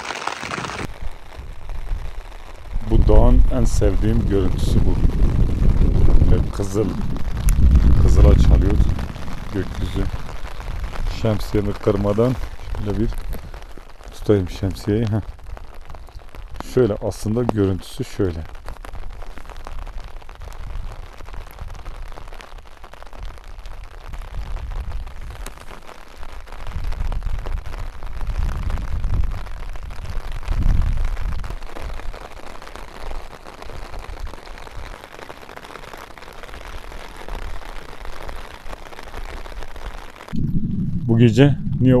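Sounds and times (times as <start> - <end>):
wind rumbling on microphone: 0.0 - 17.6, 18.2 - 32.3, 39.1 - 42.0
rain pattering on an umbrella: 0.0 - 40.4.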